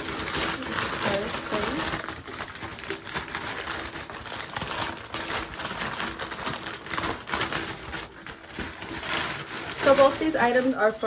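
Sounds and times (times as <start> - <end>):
plastic bag rustling and tearing: 0.0 - 11.0.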